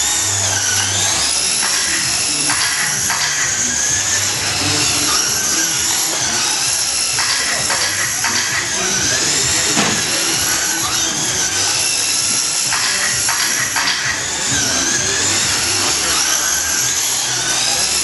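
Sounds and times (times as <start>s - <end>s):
rc truck motors whining: 0.0s - 18.0s.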